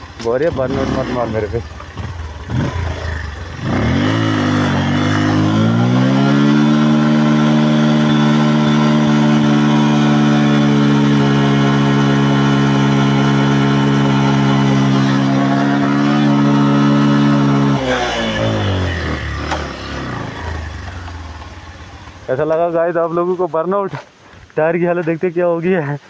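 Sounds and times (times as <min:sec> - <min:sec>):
motorcycle engine revving: 0:00.0 - 0:22.8.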